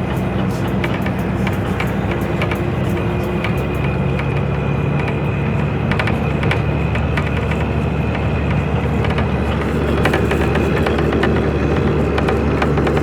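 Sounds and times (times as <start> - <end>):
road noise hiss: 0.0 - 13.0
sharp clicks and rattles: 0.0 - 13.0
vehicle engine running: 0.0 - 13.0.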